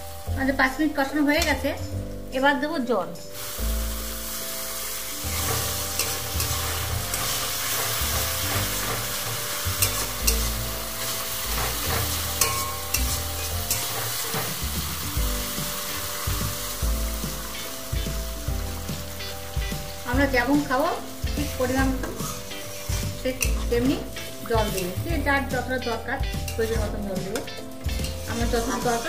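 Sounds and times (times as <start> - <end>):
food sizzling in a pan: 0.0 - 29.0.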